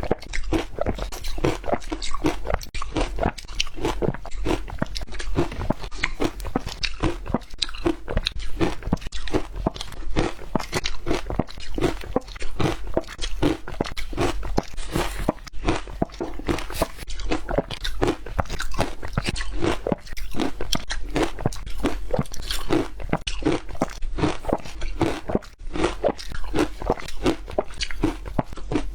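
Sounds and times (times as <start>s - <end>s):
ice crunching while chewed: 0.0s - 28.9s.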